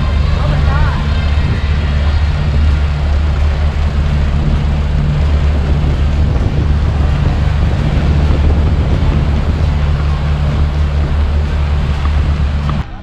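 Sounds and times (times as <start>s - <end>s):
boat engines droning: 0.0s - 13.0s
rush of wind and water: 0.0s - 13.0s.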